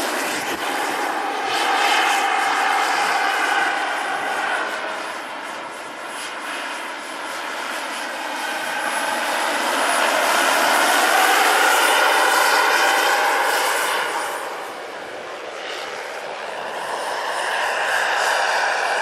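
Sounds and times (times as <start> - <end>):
helicopter rotor noise: 0.0 - 19.0
model helicopter turbine whine: 0.0 - 19.0.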